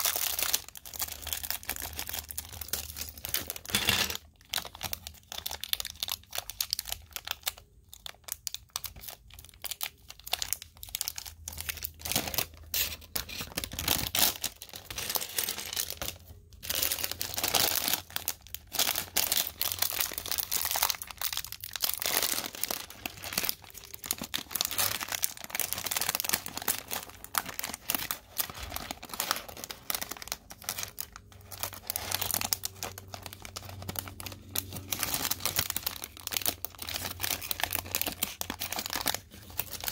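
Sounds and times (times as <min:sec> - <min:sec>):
plastic bags crinkling and tearing: 0:00.0 - 0:39.9.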